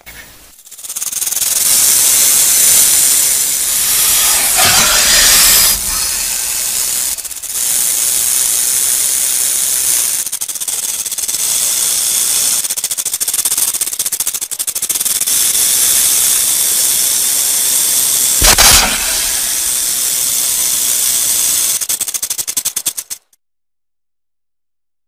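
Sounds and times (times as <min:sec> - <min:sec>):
rattlesnake rattling: 0:00.1 - 0:23.4.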